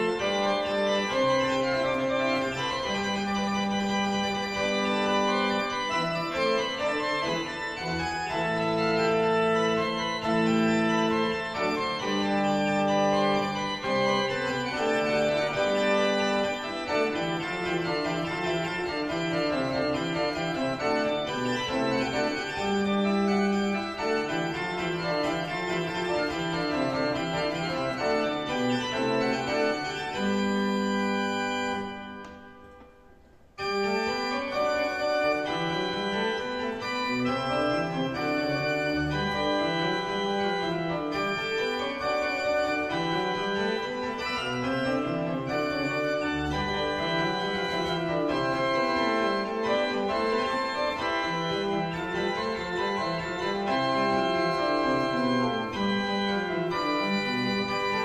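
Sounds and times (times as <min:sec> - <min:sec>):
pipe organ playing: 0:00.0 - 0:58.0.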